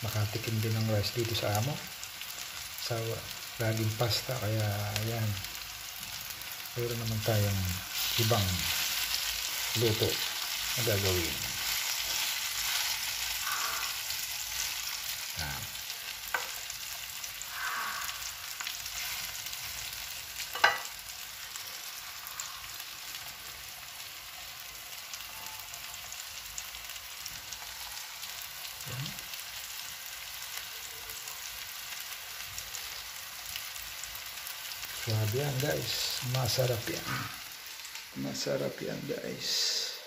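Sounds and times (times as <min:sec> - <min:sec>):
chicken sizzling in frying pan: 0:00.0 - 0:40.0.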